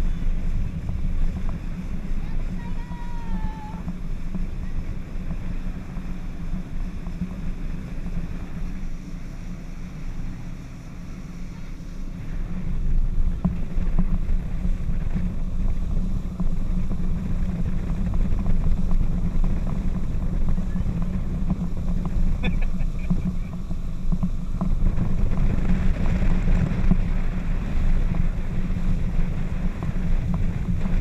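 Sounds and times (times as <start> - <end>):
outboard engine drone: 0.0 - 31.0
wind buffeting microphone: 0.0 - 31.0.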